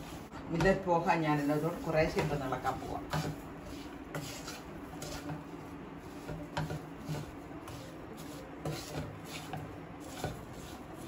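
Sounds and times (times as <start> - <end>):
spatula scraping in a pan: 0.0 - 11.0.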